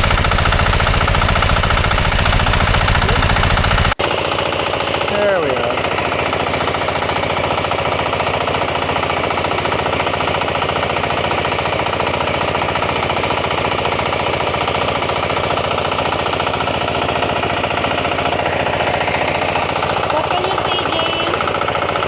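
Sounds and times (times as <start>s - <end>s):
blower fan rushing: 0.0s - 22.0s
small engine puttering: 0.0s - 22.0s.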